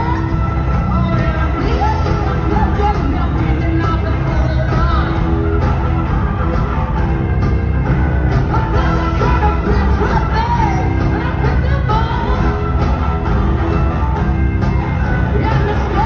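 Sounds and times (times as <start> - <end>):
live rock band with singing: 0.0 - 16.0.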